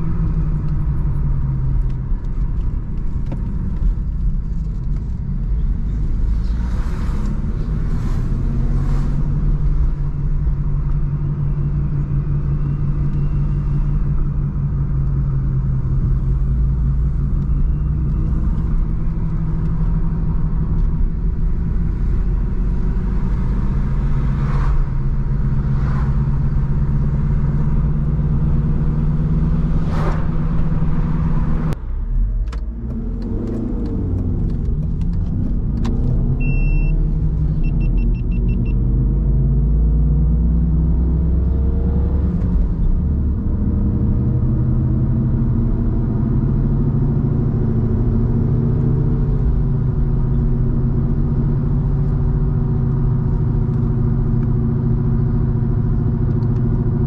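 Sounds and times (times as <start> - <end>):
car engine running: 0.0 - 39.8, 41.0 - 57.0
road rumble: 0.0 - 57.0.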